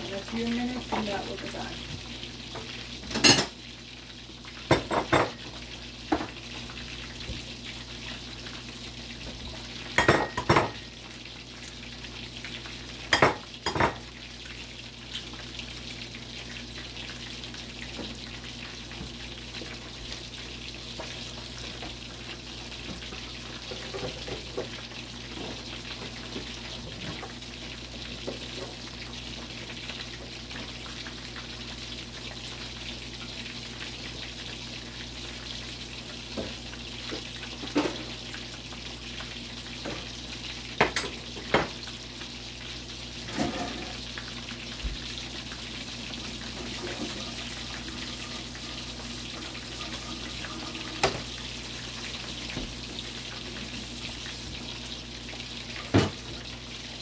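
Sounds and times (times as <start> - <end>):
chicken sizzling in hot oil: 0.0 - 57.0.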